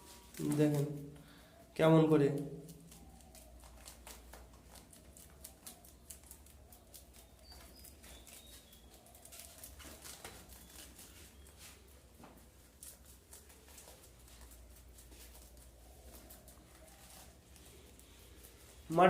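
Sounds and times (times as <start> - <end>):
rabbits chewing grass: 0.0 - 19.0.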